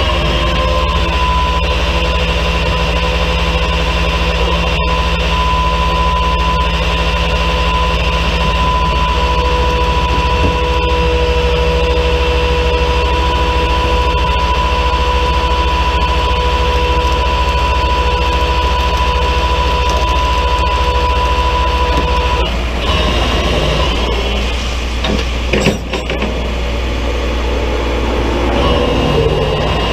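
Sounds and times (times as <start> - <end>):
high whine: 0.0 - 29.9
truck engine running: 0.0 - 29.9.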